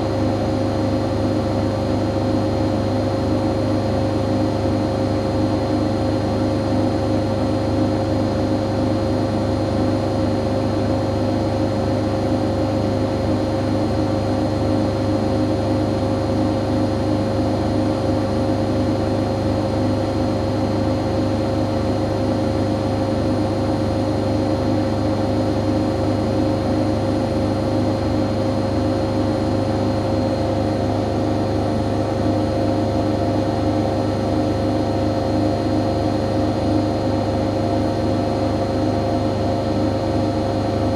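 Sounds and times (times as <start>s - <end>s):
washing machine motor whine: 0.0s - 40.9s.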